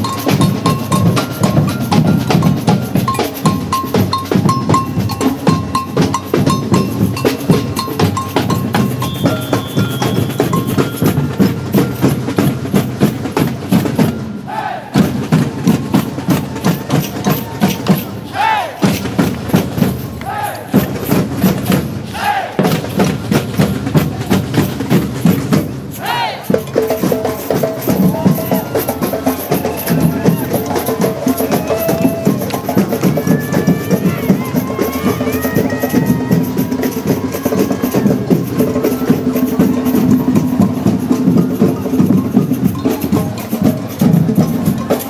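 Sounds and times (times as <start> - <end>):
marching drum band: 0.0 - 45.0.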